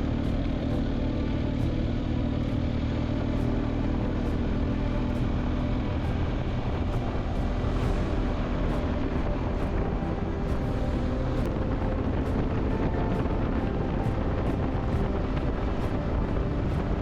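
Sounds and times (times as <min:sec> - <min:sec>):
motorcycle engine cruising: 0:00.0 - 0:17.0
road noise: 0:00.0 - 0:17.0
rushing wind: 0:00.0 - 0:17.0.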